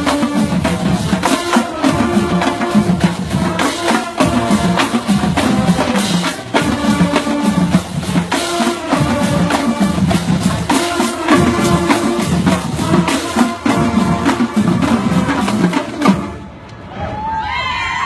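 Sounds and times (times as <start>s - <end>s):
snare and bass drums: 0.0s - 16.4s
marching band playing: 0.0s - 16.9s.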